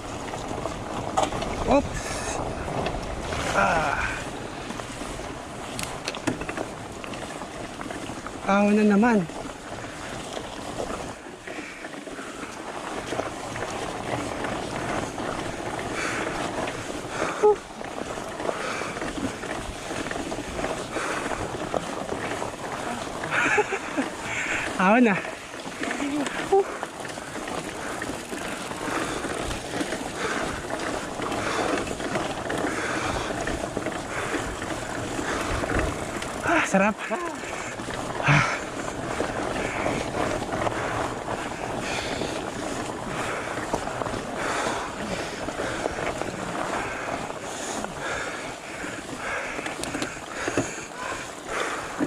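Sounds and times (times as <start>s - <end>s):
wind buffeting microphone: 0.0s - 8.5s, 9.1s - 52.0s
bike tyre and drivetrain noise: 0.0s - 52.0s.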